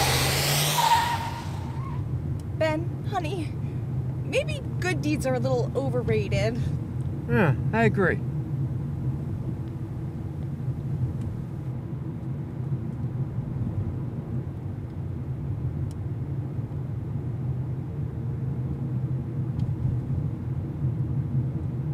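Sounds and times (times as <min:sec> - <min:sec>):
car interior driving drone: 0:00.0 - 0:21.9.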